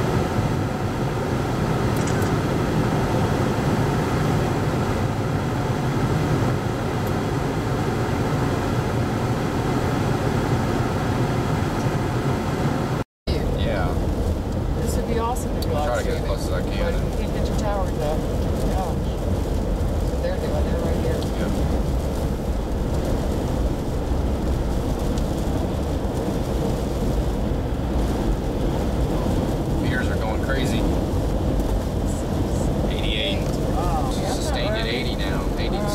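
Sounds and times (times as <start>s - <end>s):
hurricane wind roaring: 0.0s - 35.9s.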